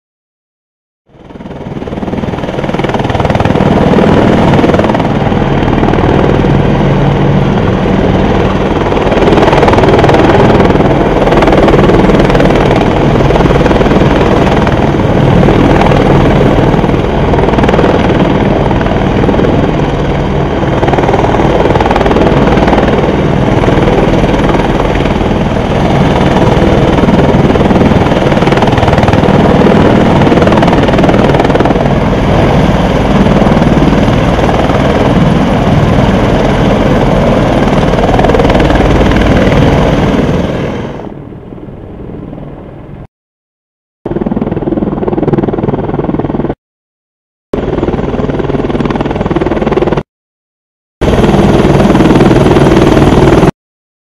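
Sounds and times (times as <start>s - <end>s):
helicopter rotor and engine noise: 1.1s - 43.1s, 44.1s - 46.6s, 47.6s - 50.1s, 51.0s - 53.5s.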